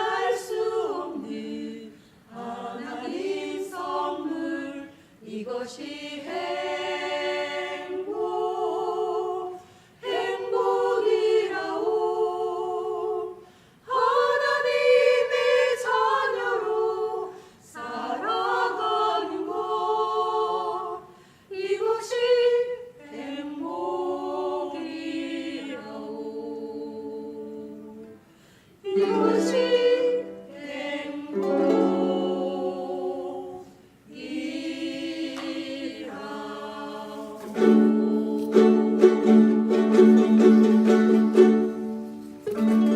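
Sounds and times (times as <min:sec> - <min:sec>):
group singing worship song: 0:00.0 - 0:42.9.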